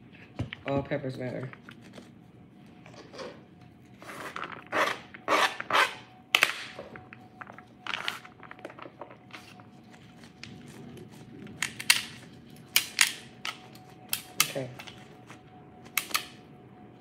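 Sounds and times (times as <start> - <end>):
plastic gloves rustling: 1.0 - 15.9.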